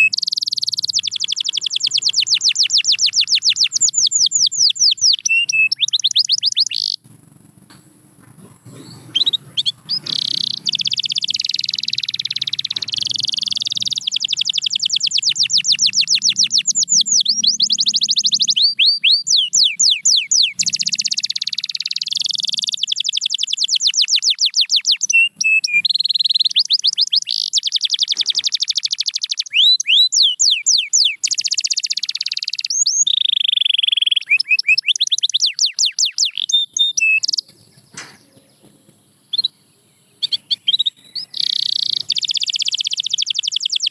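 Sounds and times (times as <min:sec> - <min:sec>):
canary singing fast trills: 0:00.0 - 0:07.4, 0:08.0 - 0:43.9.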